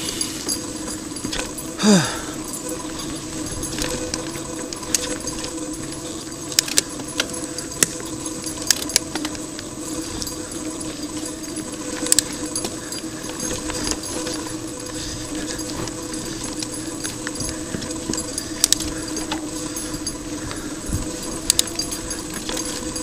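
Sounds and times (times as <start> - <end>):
bike chain rattling: 0.0 - 23.0.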